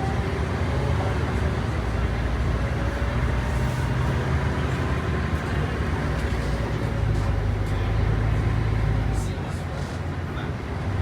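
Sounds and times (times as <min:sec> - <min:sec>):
diesel bus engine running: 0:00.0 - 0:11.0.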